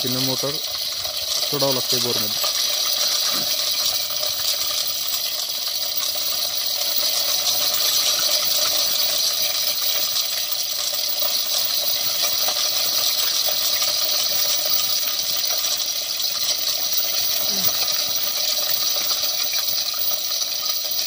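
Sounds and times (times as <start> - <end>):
metal chain clinking through hoist: 0.0 - 21.0.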